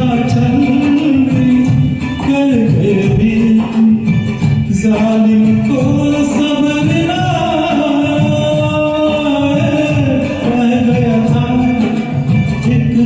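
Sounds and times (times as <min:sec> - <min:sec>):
karaoke backing track: 0:00.0 - 0:13.0
man singing: 0:00.0 - 0:13.0.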